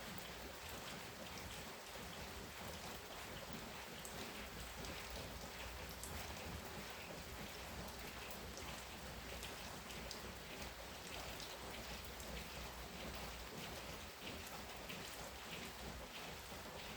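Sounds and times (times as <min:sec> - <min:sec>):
raindrops splashing on hard surfaces: 0:00.0 - 0:16.9.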